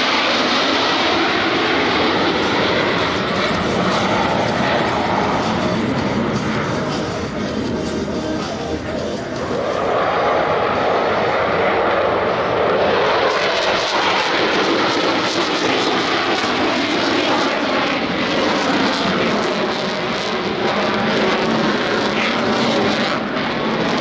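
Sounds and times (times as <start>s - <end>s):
aircraft engine crackling: 0.0s - 24.0s.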